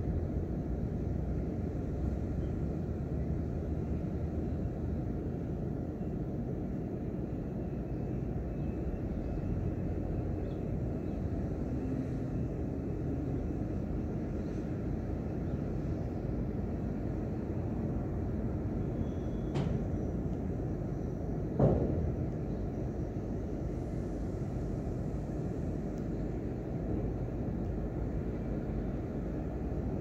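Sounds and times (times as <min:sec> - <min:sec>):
low white noise rumble: 0:00.0 - 0:30.0.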